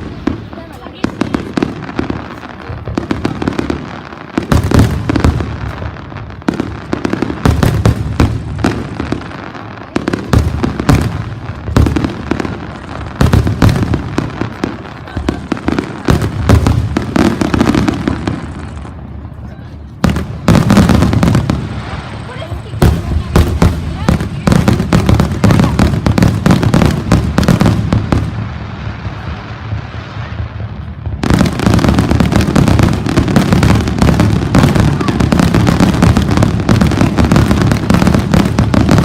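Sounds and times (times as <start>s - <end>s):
fireworks crackling: 0.0s - 39.0s.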